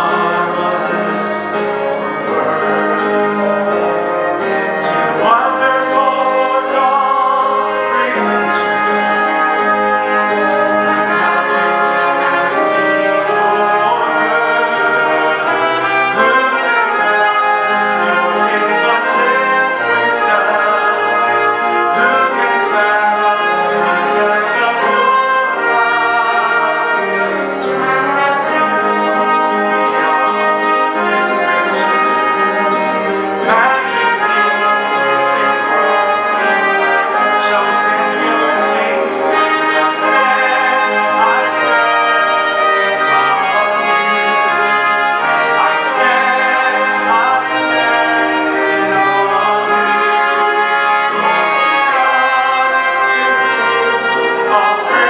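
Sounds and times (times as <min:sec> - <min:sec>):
brass ensemble playing: 0:00.0 - 0:55.0
organ: 0:00.0 - 0:55.0
piano: 0:00.0 - 0:55.0
violins: 0:00.0 - 0:55.0.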